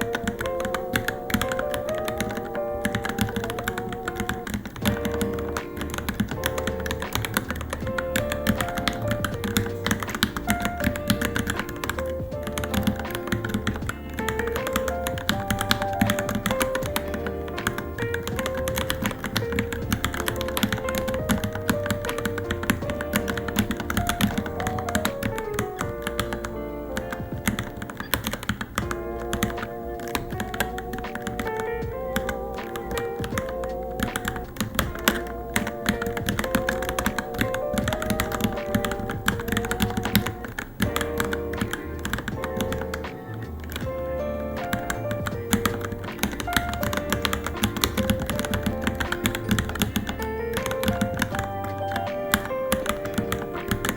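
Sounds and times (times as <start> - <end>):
background music: 0.0 - 53.9
mechanical keyboard typing: 0.0 - 53.9.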